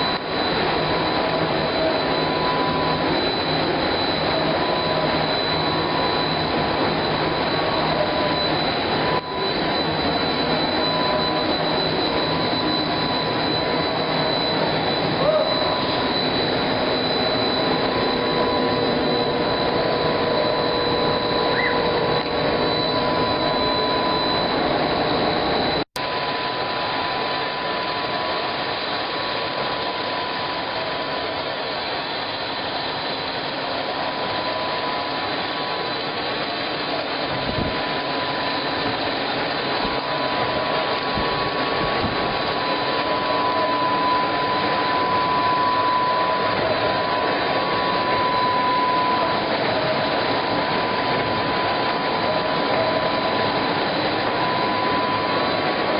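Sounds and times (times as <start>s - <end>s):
production line machinery running: 0.0s - 55.9s
steady mechanical whine: 0.0s - 55.9s.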